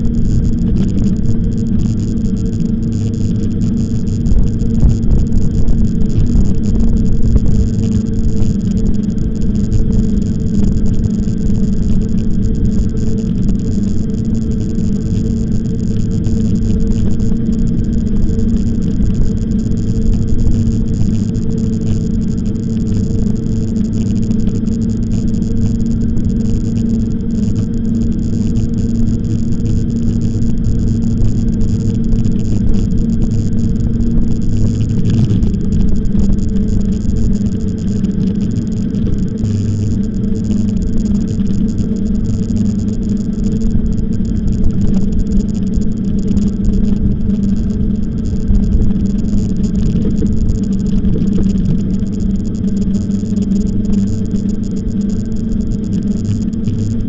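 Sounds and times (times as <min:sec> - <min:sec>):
e-bike riding noise: 0:00.0 - 0:57.0
steady hum: 0:00.0 - 0:57.0
wind rumble on microphone: 0:00.0 - 0:57.0.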